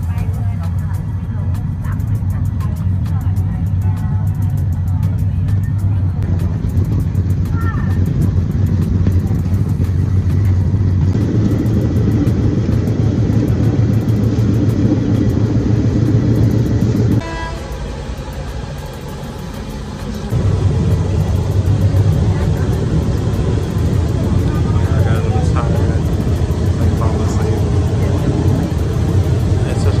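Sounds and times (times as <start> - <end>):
train wheels on track: 0.0 - 30.0
wind: 0.0 - 30.0.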